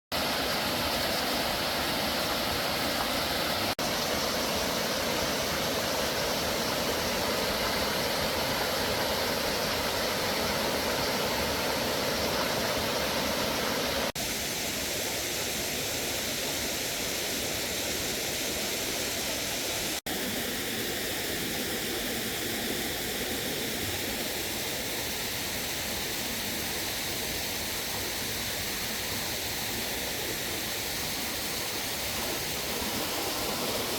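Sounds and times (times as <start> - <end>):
stream water rushing: 0.1 - 33.9.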